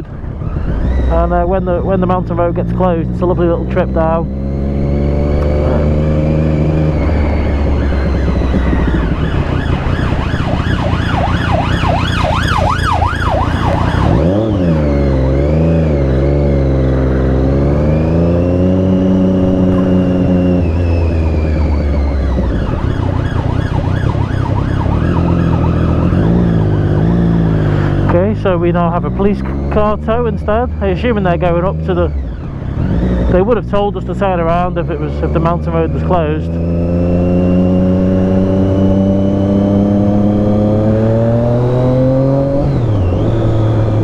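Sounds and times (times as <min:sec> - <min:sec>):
siren wailing: 0:00.0 - 0:01.9, 0:04.2 - 0:28.1, 0:30.6 - 0:44.0
motorbike engine revving: 0:00.0 - 0:44.0.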